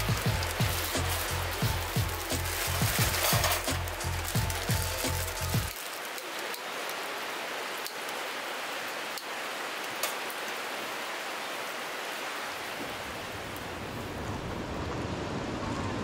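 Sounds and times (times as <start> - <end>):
sharp ticks of raindrops: 0.0 - 13.8
rain hiss: 0.0 - 16.0.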